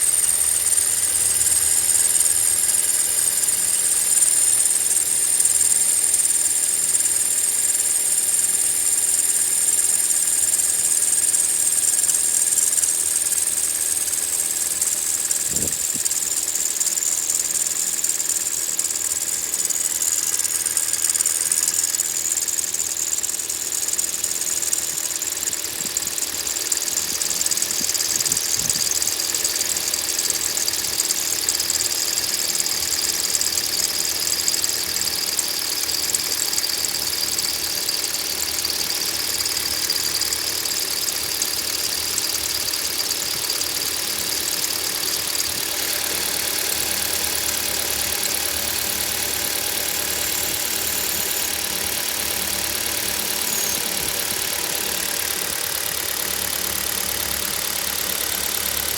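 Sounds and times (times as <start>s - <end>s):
car engine running: 0.0s - 58.9s
high-pitched belt squeal: 0.0s - 58.9s.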